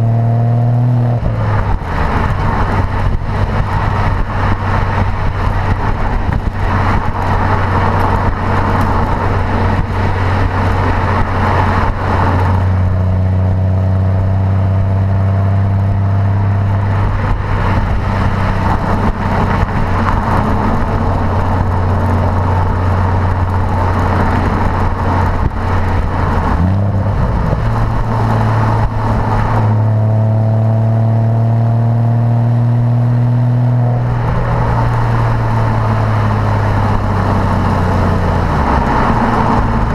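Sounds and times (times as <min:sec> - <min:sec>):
road noise: 0:00.0 - 0:39.9
sports car engine drone: 0:00.0 - 0:39.9.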